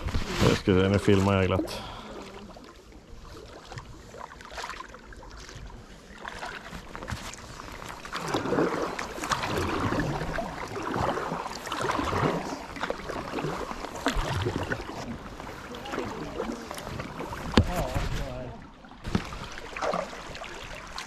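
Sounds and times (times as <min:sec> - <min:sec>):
kayak paddle splashing water: 0:00.0 - 0:21.0
water swirling: 0:00.0 - 0:21.0.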